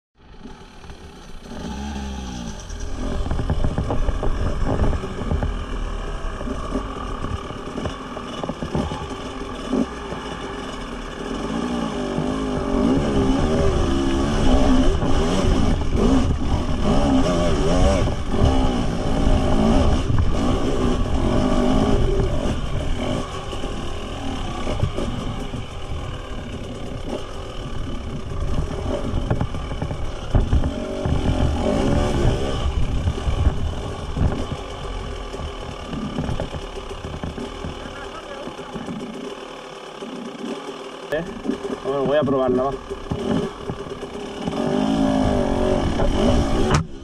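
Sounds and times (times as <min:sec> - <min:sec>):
motorcycle engine revving: 0:00.2 - 0:47.0.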